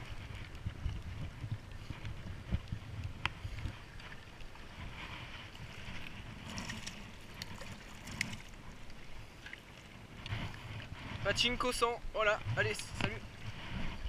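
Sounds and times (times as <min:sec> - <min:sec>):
small waves washing on shore: 0:00.0 - 0:14.0
wind buffeting microphone: 0:00.0 - 0:14.0.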